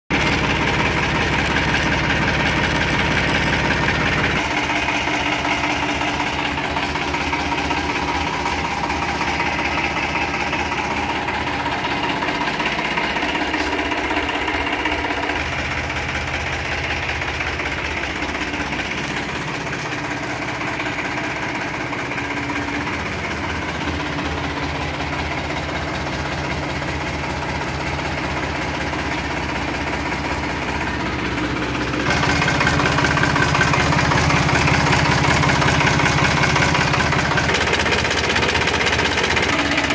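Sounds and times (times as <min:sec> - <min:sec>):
tractor diesel engine running: 0:00.1 - 0:39.9.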